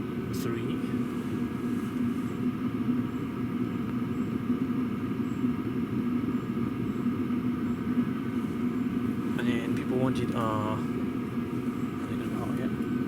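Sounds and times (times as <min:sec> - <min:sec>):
air heater droning: 0:00.0 - 0:13.0.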